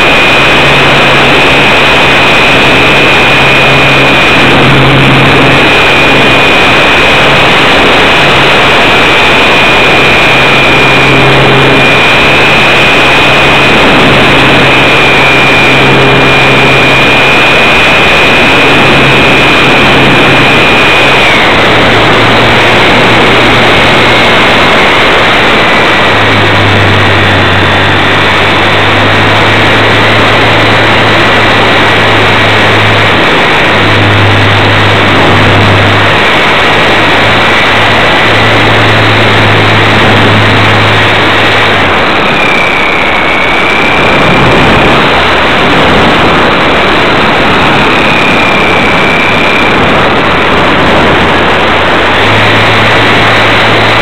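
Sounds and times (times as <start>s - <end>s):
electric motor and propeller whining: 0.0s - 54.0s
loud wind rush: 0.0s - 54.0s.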